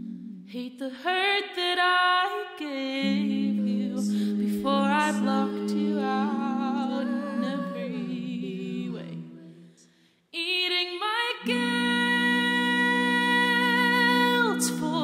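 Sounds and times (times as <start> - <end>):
sung vocal harmonies: 0.0 - 15.0.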